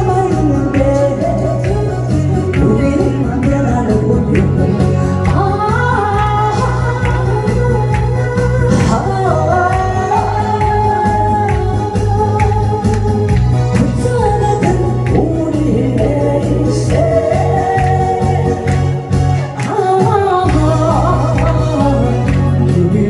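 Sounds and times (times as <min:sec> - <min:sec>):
backing track with beat and bass: 0:00.0 - 0:23.0
person singing: 0:00.0 - 0:23.0.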